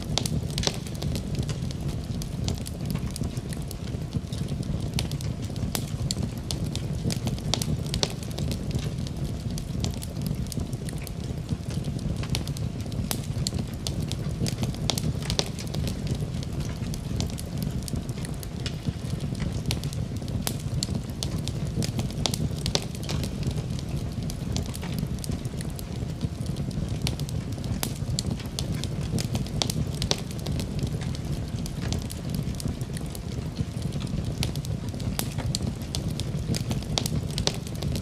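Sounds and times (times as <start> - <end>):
fire pops and snaps: 0.0 - 38.0
low rumble of flames: 0.0 - 38.0.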